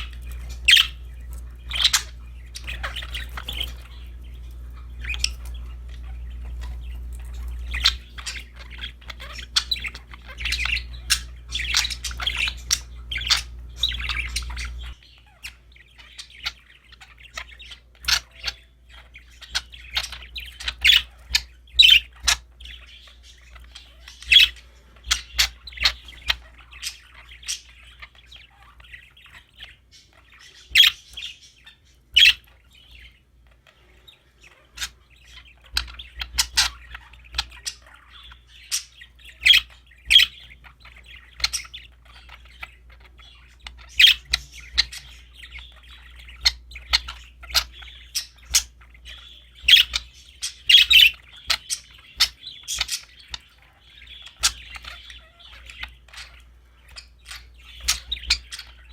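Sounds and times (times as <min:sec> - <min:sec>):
sharp squawks: 0:00.0 - 0:33.7, 0:34.4 - 0:58.9
budgerigars chirping: 0:00.0 - 0:58.9.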